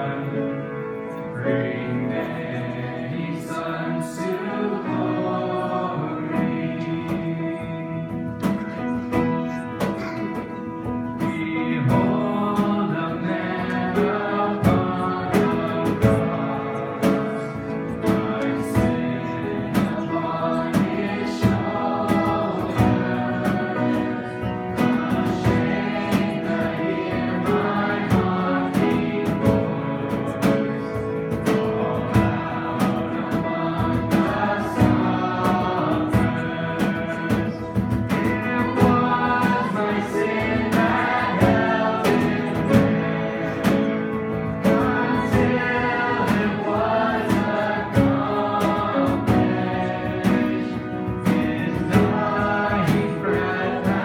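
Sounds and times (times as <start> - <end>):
worship song with singers and instruments: 0.0 - 54.0.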